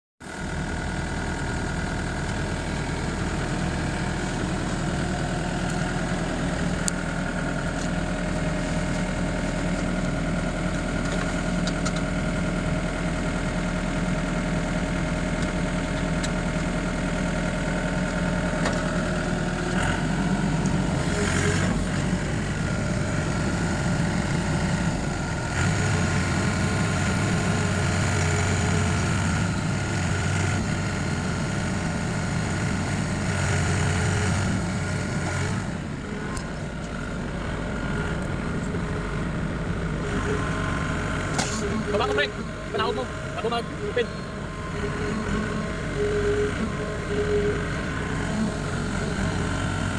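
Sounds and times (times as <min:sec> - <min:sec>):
excavator diesel engine running: 0:00.2 - 0:49.9.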